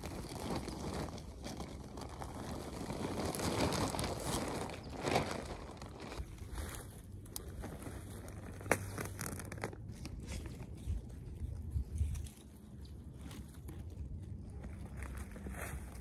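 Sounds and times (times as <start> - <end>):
rustling and crinkling: 0.0 - 16.0.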